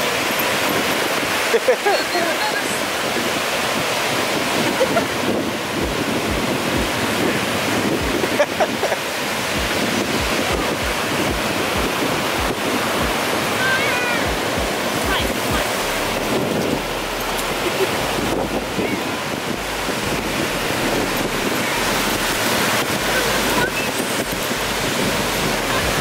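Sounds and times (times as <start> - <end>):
ocean surf washing in: 0.0 - 26.0
wind buffeting microphone: 0.0 - 26.0.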